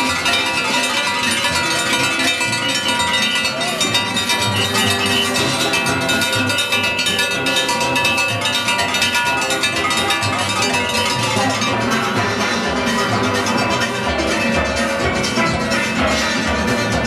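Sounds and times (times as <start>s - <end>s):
metallic clanging percussion: 0.0s - 17.0s
steel pans playing melody: 0.0s - 17.0s.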